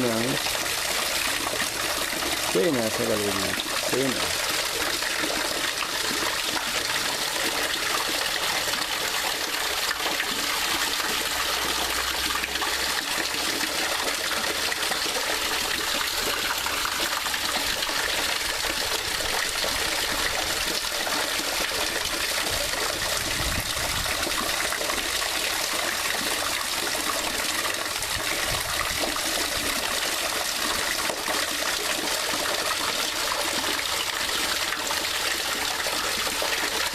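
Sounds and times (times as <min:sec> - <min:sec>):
running water: 0:00.0 - 0:36.9.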